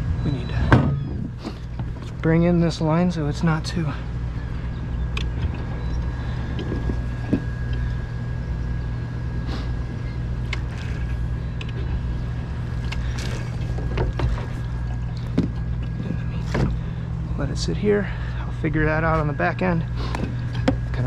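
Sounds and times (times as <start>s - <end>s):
faint steady whine: 0.0s - 21.0s
onboard machinery hum: 0.0s - 21.0s.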